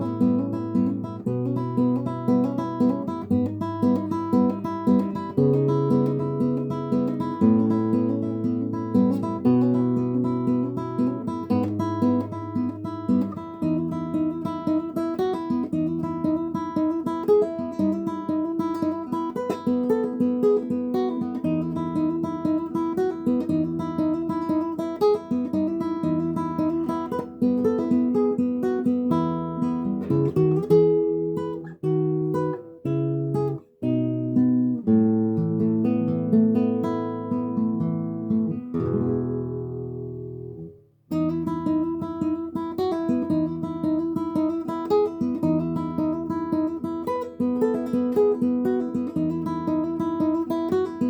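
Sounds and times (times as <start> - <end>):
fingerstyle guitar: 0.0 - 51.0.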